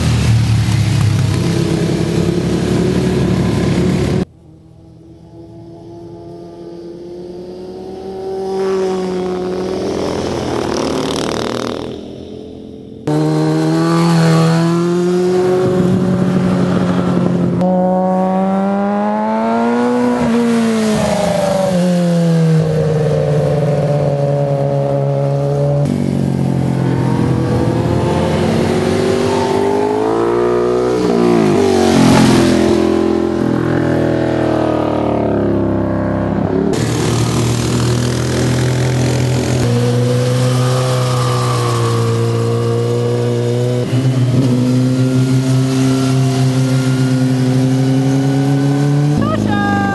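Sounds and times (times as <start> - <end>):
motorcycles passing and revving: 0.0 - 49.9.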